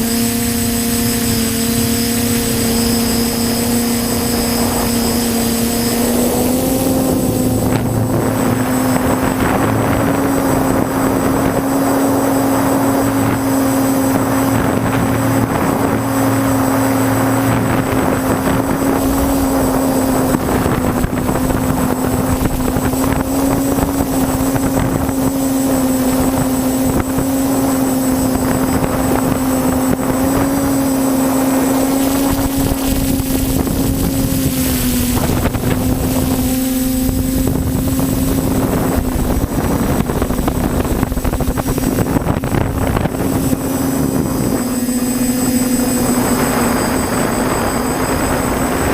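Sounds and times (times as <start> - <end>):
quadcopter propellers buzzing: 0.0 - 48.9
rush of prop wash: 0.0 - 48.9.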